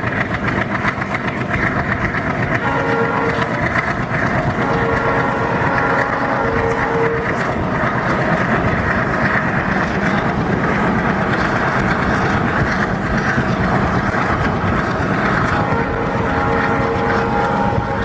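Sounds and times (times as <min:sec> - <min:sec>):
diesel locomotive engine running: 0:00.0 - 0:18.0
wheels rushing on rails: 0:00.0 - 0:18.0.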